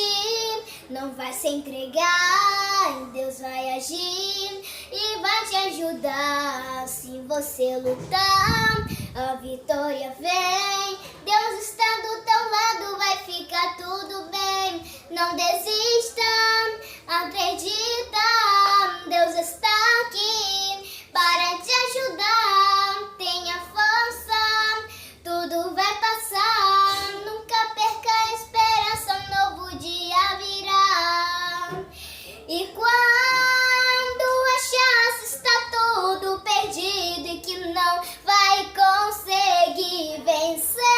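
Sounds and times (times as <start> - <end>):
child singing: 0.0 - 40.9.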